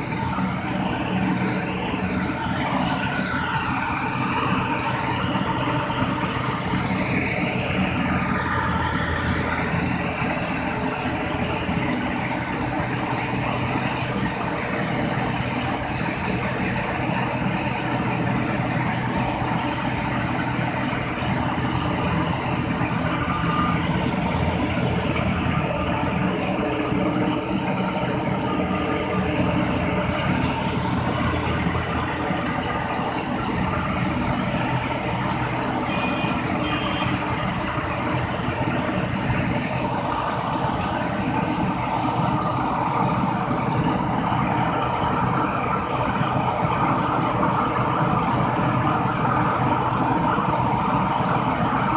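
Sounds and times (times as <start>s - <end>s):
combine harvester engine drone: 0.0s - 51.9s.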